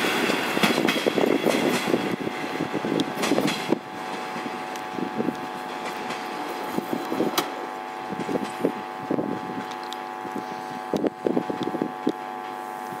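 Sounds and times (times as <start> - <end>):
diesel locomotive engine drone: 0.0 - 13.0
wind buffeting microphone: 0.1 - 12.2.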